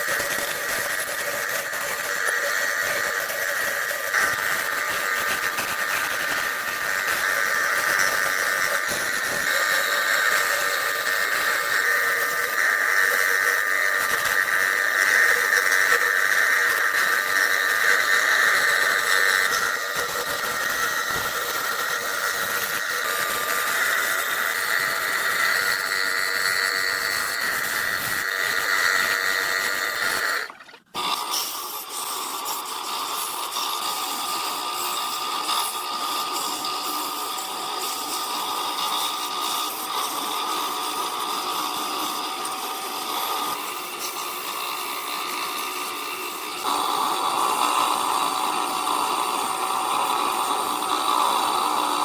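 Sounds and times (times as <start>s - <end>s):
power tool motor whine: 0.0s - 52.0s.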